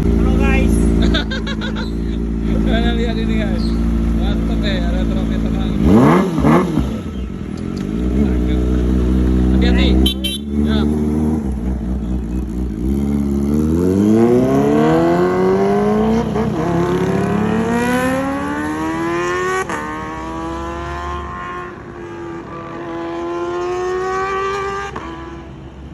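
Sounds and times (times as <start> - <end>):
motorcycle engine accelerating: 0.0 - 25.5.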